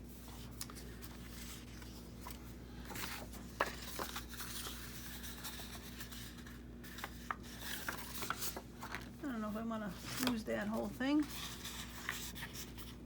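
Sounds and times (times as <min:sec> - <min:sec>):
faint steady hum: 0:00.0 - 0:13.0
paper rustling: 0:00.1 - 0:13.0.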